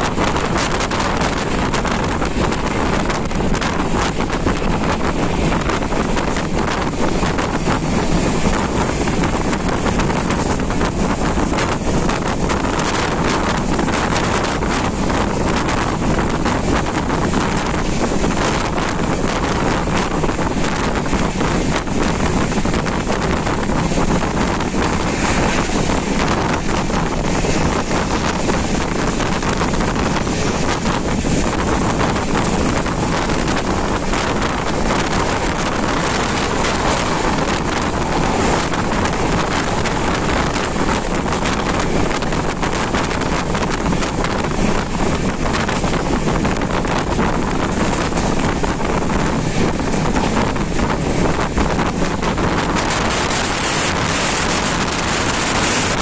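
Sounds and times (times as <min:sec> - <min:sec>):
train running noise: 0:00.0 - 0:56.0
wind rushing over microphone: 0:00.0 - 0:56.0.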